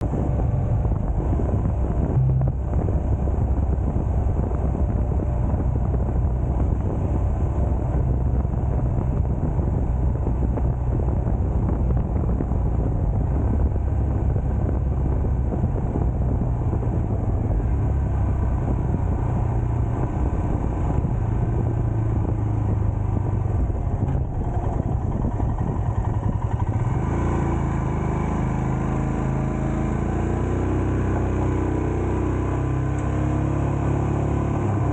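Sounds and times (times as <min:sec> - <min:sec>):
pitched engine hum: 0:00.0 - 0:34.9
vehicle driving on road: 0:00.0 - 0:34.9.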